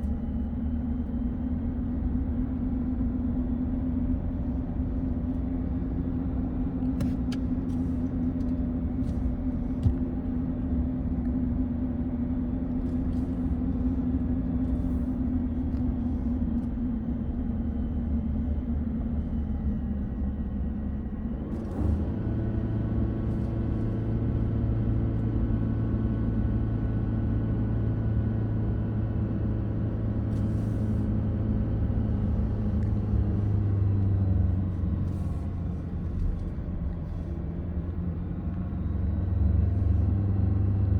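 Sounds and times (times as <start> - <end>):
car engine: 0.0 - 40.9
road rumble: 0.0 - 40.9.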